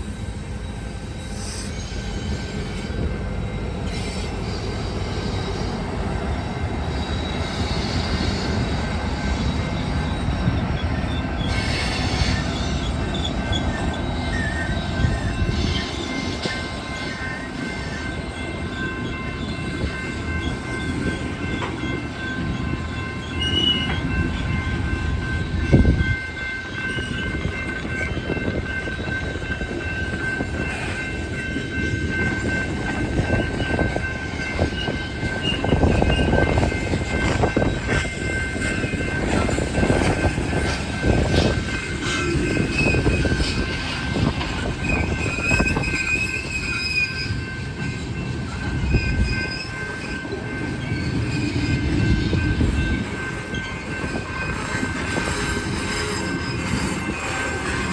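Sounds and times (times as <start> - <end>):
steady high-pitched tones: 0.0 - 57.9
train wheels rumbling and clattering: 0.0 - 57.9.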